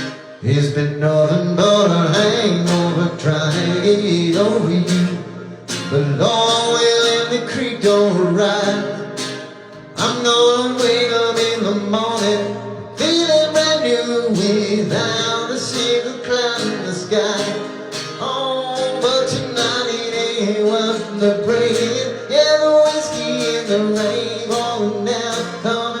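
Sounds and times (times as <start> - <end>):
man singing: 0.0 - 26.0
strummed acoustic guitar: 0.0 - 26.0.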